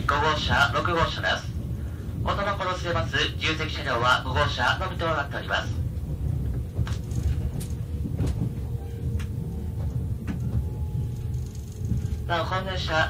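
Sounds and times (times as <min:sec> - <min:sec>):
train car low rumble: 0:00.0 - 0:13.0.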